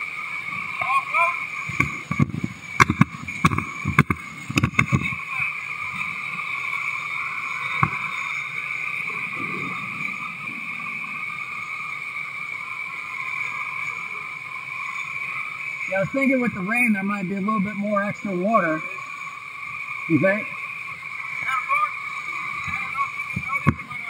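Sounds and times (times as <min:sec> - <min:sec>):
whitewater rapids rushing: 0:00.0 - 0:24.0.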